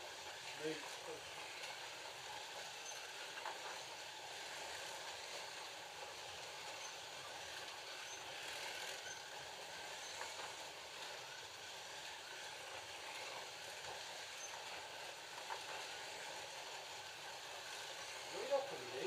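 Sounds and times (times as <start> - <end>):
slot cars whirring: 0.0 - 19.0.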